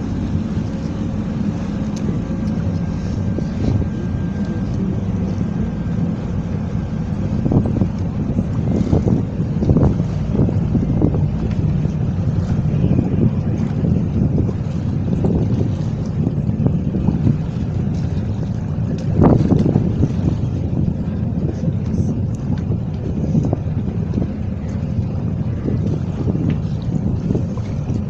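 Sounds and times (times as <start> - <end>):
water rushing along hull: 0.0 - 28.0
wind buffeting microphone: 0.0 - 28.0.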